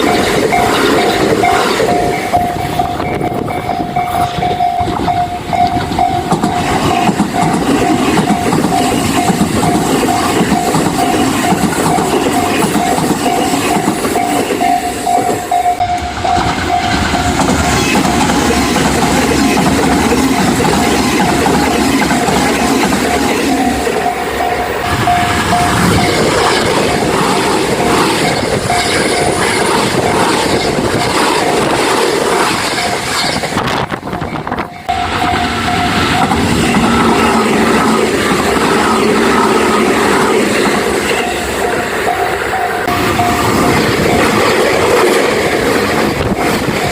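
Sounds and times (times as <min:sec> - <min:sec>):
level-crossing warning bell: 0:00.0 - 0:46.9
train running past: 0:00.0 - 0:46.9.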